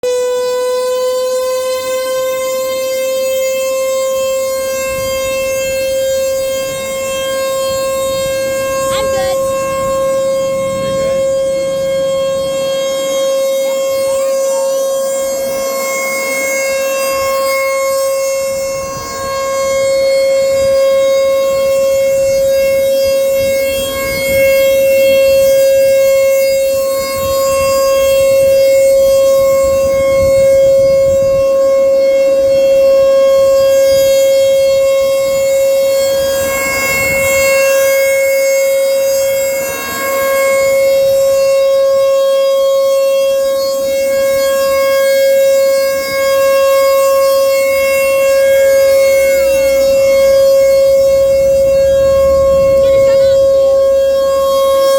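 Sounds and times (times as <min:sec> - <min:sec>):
tornado siren steady tone: 0:00.0 - 0:54.9.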